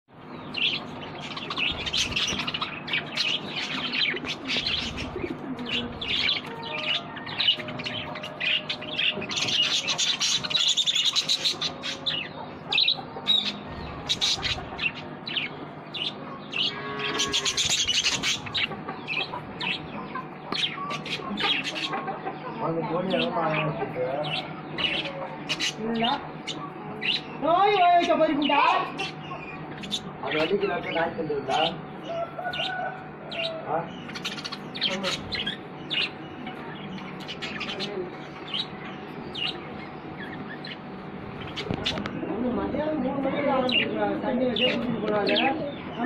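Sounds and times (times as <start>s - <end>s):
budgerigars chattering: 0.3s - 46.0s.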